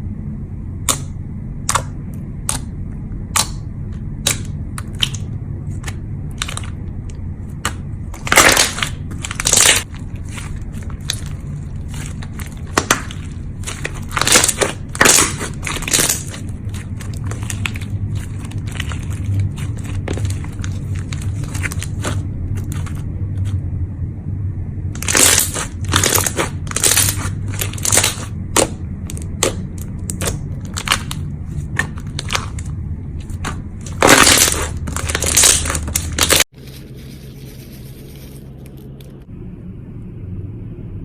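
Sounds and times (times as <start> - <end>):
low steady hum: 0.0 - 41.0
crunching and crackling: 3.4 - 23.6, 25.0 - 39.3.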